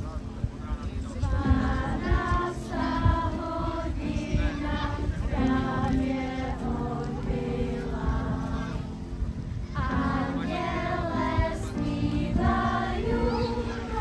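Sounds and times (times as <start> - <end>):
children's choir singing: 1.0 - 14.0.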